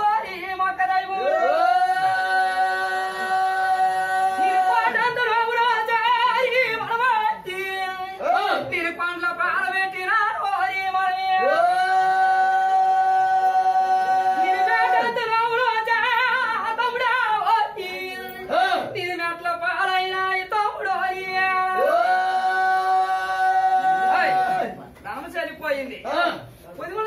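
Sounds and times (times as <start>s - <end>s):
person singing unaccompanied: 0.0s - 24.7s.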